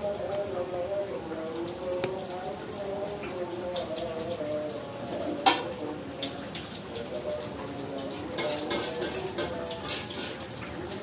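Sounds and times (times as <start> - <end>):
fritters sizzling in oil: 0.1 - 11.0.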